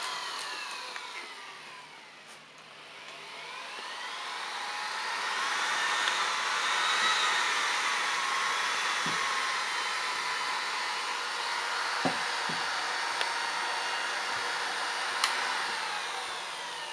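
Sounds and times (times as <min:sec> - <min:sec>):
electric blower running: 0:00.0 - 0:16.9.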